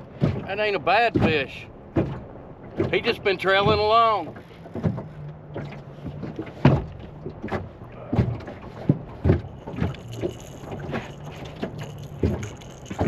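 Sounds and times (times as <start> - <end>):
waves slapping against boat hull: 0.0 - 13.0.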